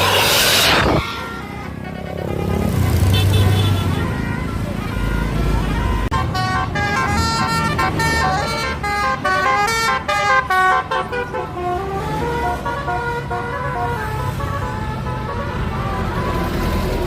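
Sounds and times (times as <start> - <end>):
multi-tone horn melody: 0.0 - 17.0.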